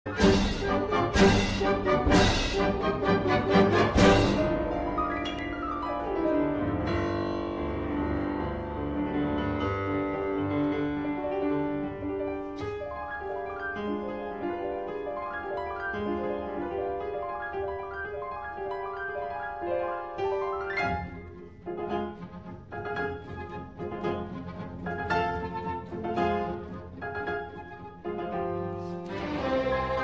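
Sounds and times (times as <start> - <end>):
piano-led music: 0.0 - 30.0.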